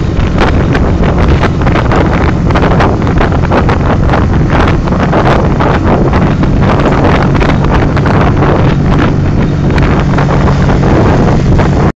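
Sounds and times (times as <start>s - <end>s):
motorcycle engine humming: 0.0s - 11.9s
wind buffeting on microphone: 0.0s - 12.0s.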